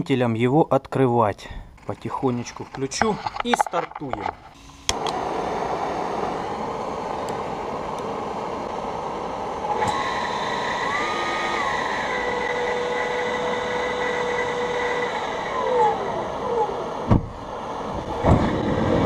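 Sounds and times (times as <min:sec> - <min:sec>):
whining tones: 0:02.2 - 0:19.0
compressor rushing air and whine: 0:02.5 - 0:19.0.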